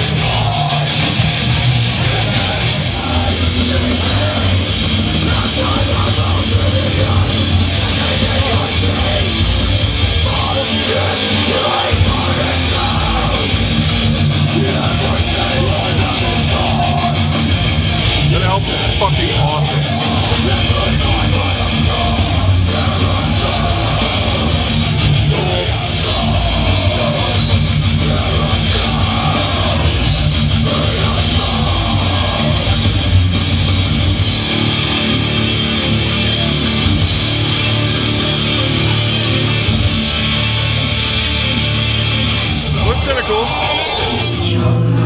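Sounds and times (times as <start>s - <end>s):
heavy rock music with electric guitar: 0.0s - 45.0s.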